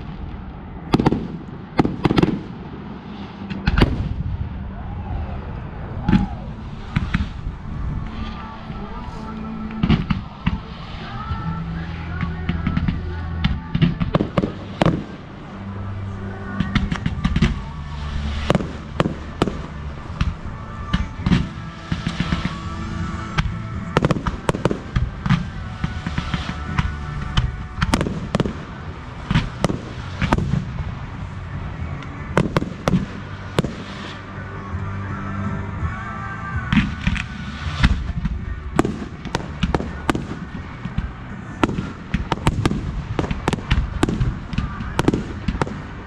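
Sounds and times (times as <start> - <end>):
fireworks bursting with bangs: 0.0 - 4.6, 5.7 - 46.0
music playing: 1.8 - 46.0.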